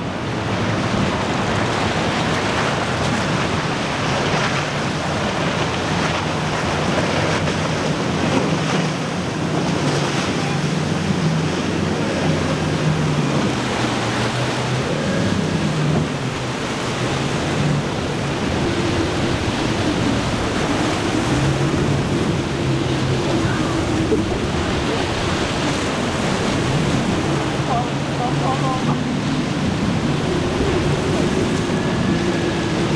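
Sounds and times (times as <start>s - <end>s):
outboard engines droning: 0.0s - 32.9s
surf and wake rushing: 0.0s - 32.9s
wind buffeting microphone: 0.0s - 32.9s.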